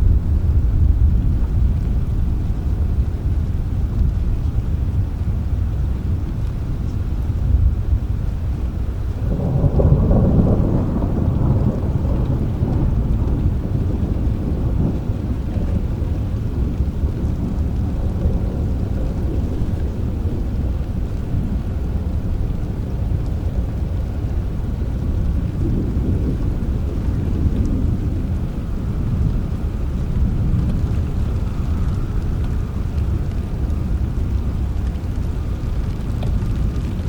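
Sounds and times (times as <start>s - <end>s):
distant thunder rumbling: 0.0s - 5.8s, 7.6s - 37.0s
steady rain: 0.0s - 37.0s.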